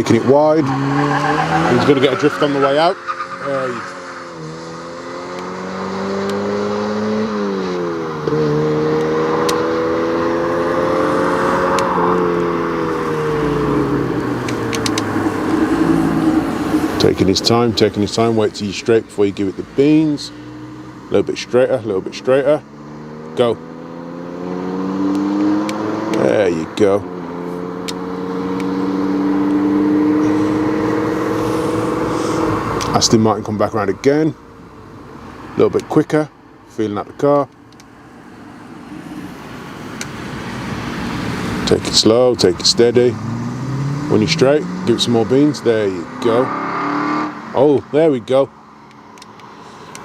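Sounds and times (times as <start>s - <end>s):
car engine accelerating hard: 0.0s - 35.7s, 39.9s - 50.0s.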